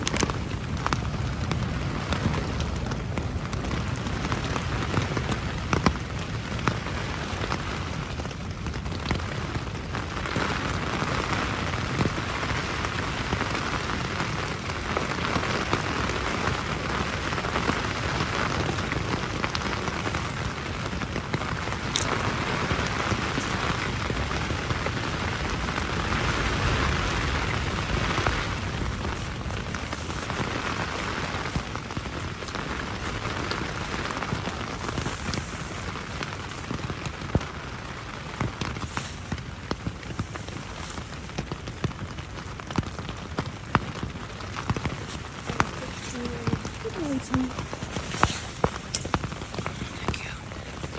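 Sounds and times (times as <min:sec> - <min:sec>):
rain falling on a tent: 0:00.0 - 0:50.9.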